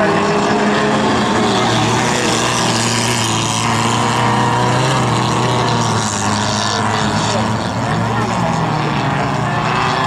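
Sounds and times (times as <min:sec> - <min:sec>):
racing car engines: 0:00.0 - 0:10.0.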